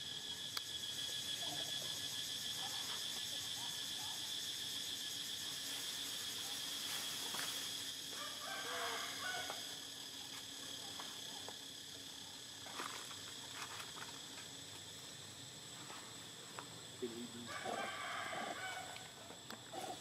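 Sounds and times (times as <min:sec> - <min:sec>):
high drone of insects: 0:00.0 - 0:20.0.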